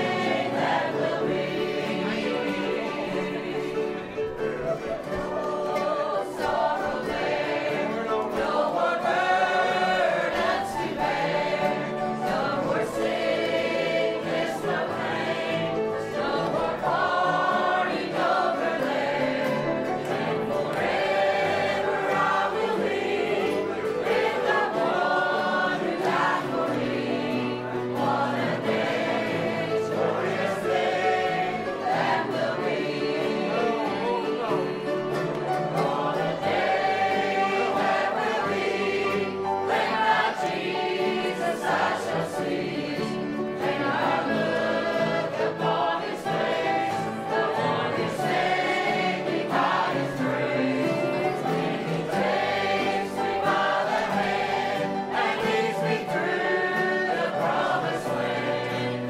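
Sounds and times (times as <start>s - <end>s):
acoustic guitar: 0.0s - 59.0s
group singing gospel song: 0.0s - 59.0s.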